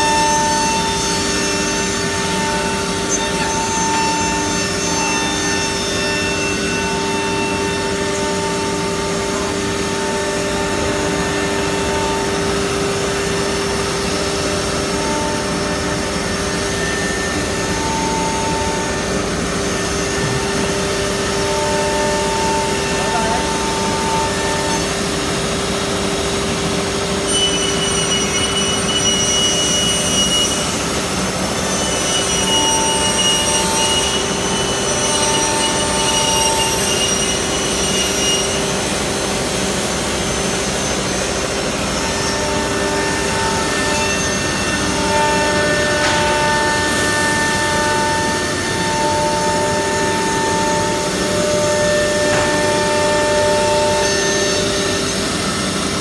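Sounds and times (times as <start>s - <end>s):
wood router cutting wood: 0.0s - 56.0s.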